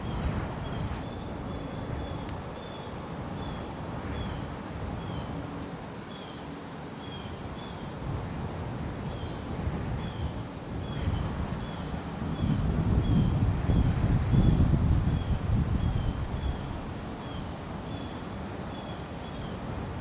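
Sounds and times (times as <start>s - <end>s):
wind gusting against microphone: 0.0s - 20.0s.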